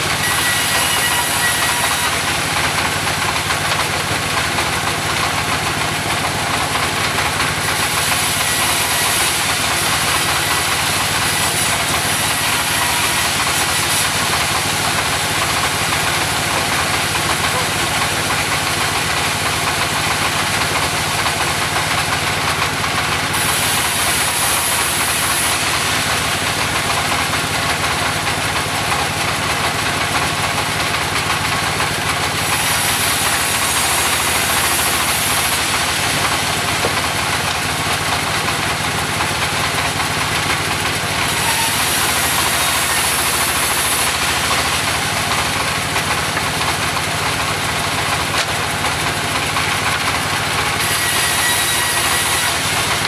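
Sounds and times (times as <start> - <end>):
sawmill engine running: 0.0 - 53.0.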